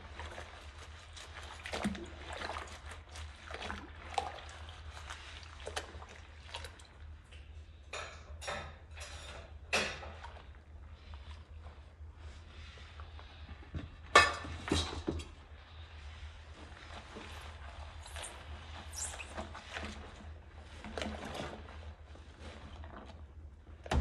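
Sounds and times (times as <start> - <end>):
sponge scrubbing dishes: 0.0 - 8.1, 8.7 - 23.8
dishwater sloshing in a sink: 0.0 - 24.0.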